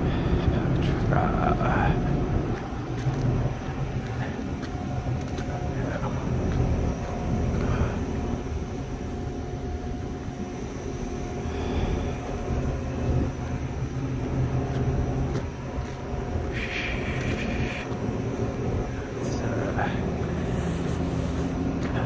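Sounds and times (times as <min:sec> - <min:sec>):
diesel engine low drone: 0:00.0 - 0:22.0
faint steady whine: 0:00.0 - 0:22.0.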